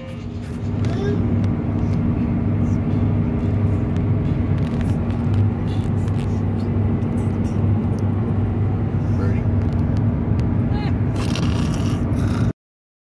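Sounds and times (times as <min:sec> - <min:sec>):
car cabin road noise: 0:00.0 - 0:12.5.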